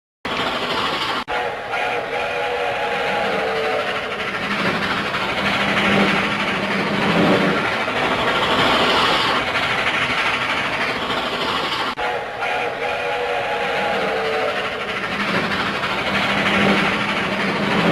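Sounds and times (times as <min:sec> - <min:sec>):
train rumbling on rails: 0:00.3 - 0:17.9.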